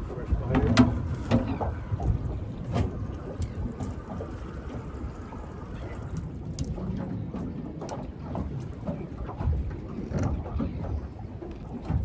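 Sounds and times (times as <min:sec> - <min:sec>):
knocks and taps on boat: 0:00.0 - 0:05.0, 0:05.8 - 0:12.0
water and wind against hull: 0:00.0 - 0:12.0.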